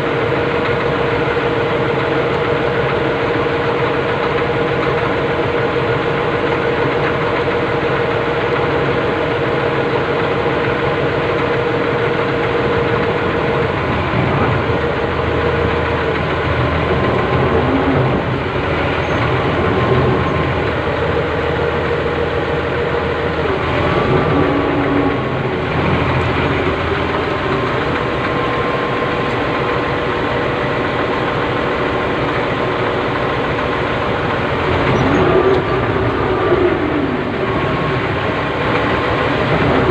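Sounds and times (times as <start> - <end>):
excavator diesel engine running: 0.0 - 39.9
steady whine: 0.0 - 39.9.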